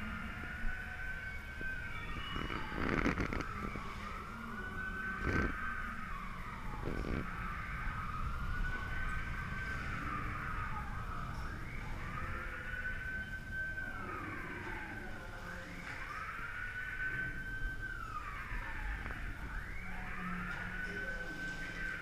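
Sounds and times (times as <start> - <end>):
wailing siren: 0.0 - 22.0.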